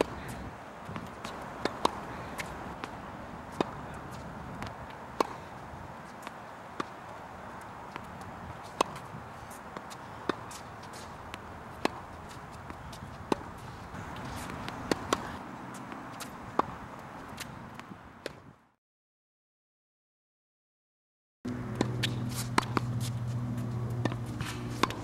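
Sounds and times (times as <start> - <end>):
tennis racket hitting ball: 0.0 - 18.4, 21.5 - 25.0
tennis ball bouncing: 0.0 - 18.5, 21.5 - 25.0.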